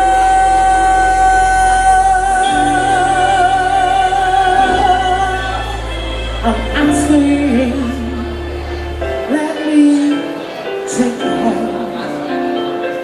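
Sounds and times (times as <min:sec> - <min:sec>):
backing music with bass line: 0:00.0 - 0:12.5.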